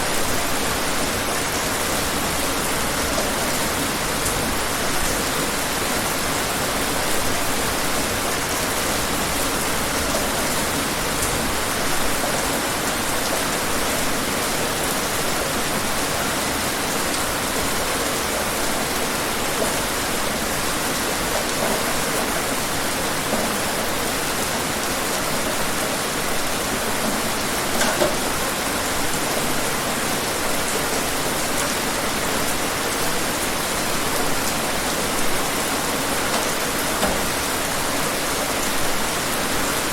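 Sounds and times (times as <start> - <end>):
dense rainfall hiss: 0.0 - 39.9.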